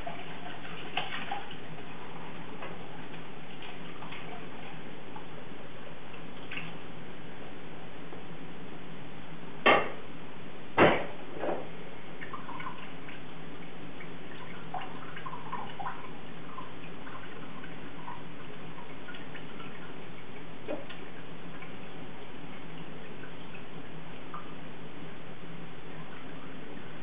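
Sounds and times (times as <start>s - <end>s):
stock dripping and trickling: 0.0s - 7.0s, 11.7s - 27.0s.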